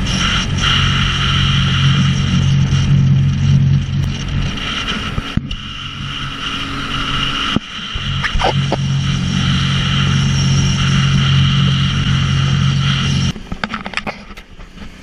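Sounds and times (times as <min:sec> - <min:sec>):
jet ski engine running: 0:00.0 - 0:15.0
water noise: 0:00.0 - 0:15.0
wind noise: 0:00.0 - 0:15.0.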